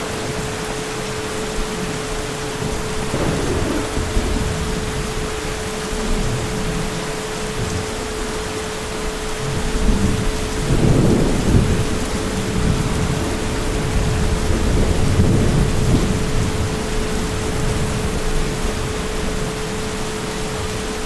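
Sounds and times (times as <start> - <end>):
heavy rain falling: 0.0 - 21.0
low rumble of thunder: 1.4 - 21.0.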